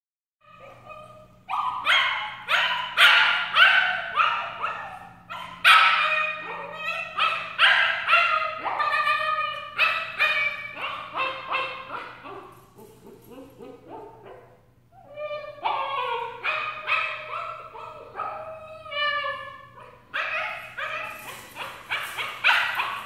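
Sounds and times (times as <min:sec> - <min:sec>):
puppy yelping and whining: 0:00.4 - 0:23.0.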